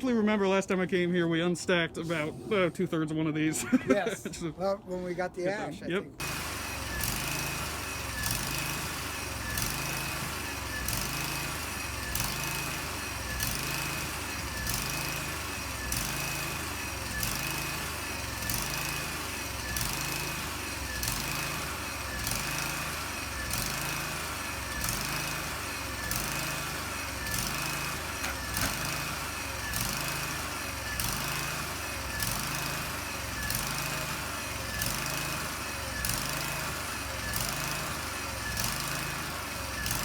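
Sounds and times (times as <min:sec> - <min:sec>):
small engine running with pulse: 0:06.2 - 0:40.0.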